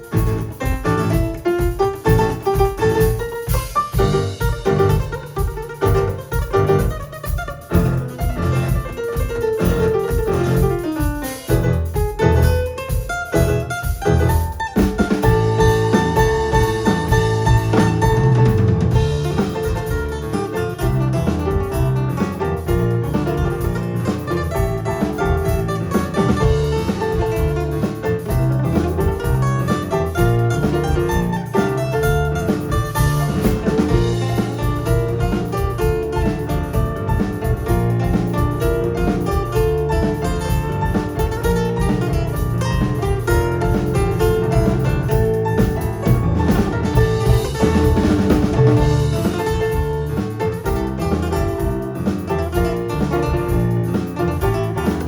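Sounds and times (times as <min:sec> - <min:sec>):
drum kit: 0:00.0 - 0:55.0
guitar: 0:00.0 - 0:55.0
live band playing: 0:00.0 - 0:55.0.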